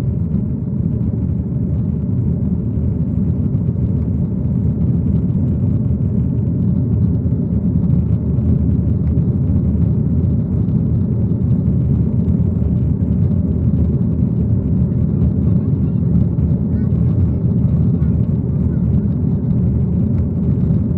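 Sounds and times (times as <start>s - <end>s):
aeroplane low rumble: 0.0s - 20.9s.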